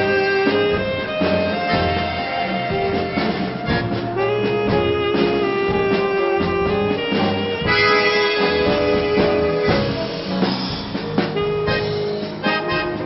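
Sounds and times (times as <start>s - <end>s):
dance band playing a tango: 0.0s - 13.0s.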